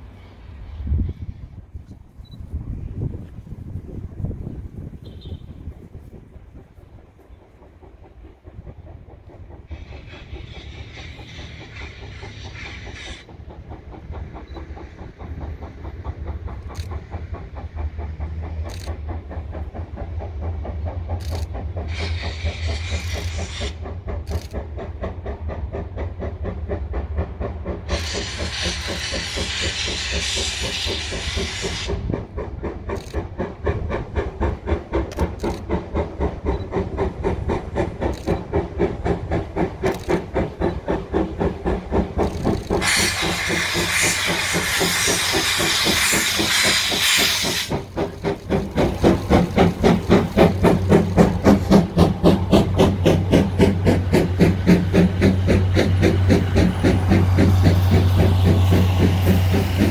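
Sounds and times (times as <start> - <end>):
steam locomotive approaching: 0.0 - 59.9
locomotive exhaust chuffing: 3.2 - 59.9
steam hissing: 5.8 - 59.9.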